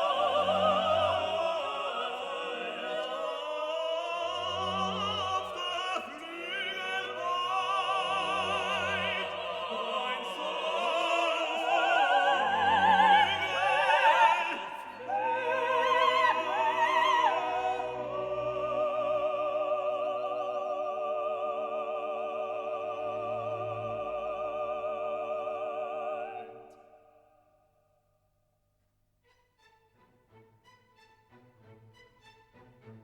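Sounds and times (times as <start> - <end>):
operatic voices singing: 0.0 - 27.3.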